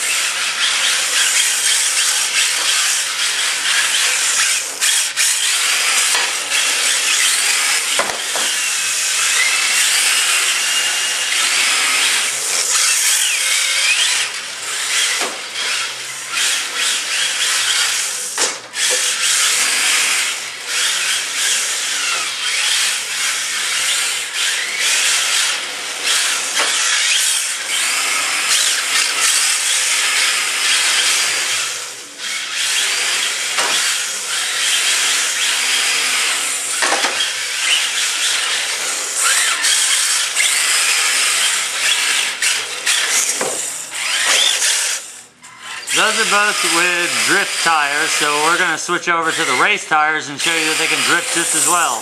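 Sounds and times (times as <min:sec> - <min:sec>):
rc car motor whine: 0:00.0 - 0:52.0.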